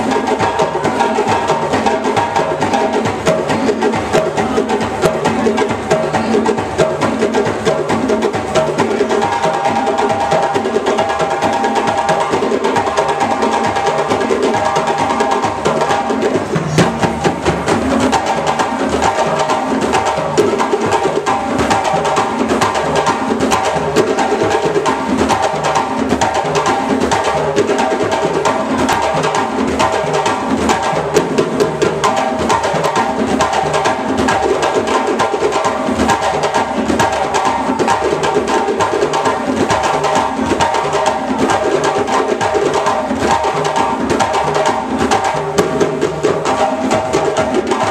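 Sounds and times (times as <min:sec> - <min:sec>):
djembe drums playing fast rhythm: 0:00.0 - 0:47.9.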